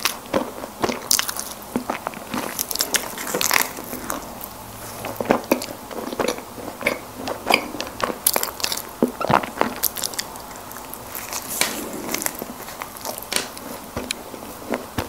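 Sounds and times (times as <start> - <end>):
chewing snack cakes: 0.0 - 15.0.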